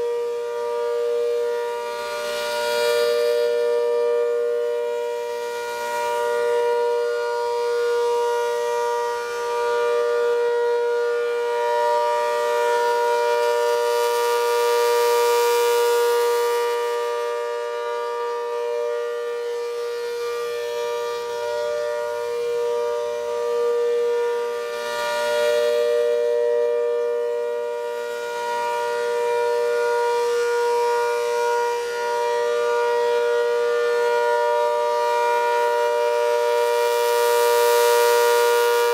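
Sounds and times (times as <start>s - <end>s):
rotating horn siren: 0.0s - 38.9s.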